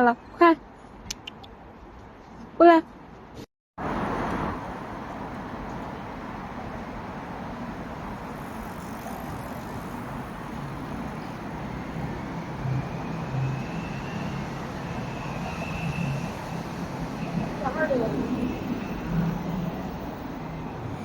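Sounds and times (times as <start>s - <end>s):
road traffic passing: 3.1s - 21.0s.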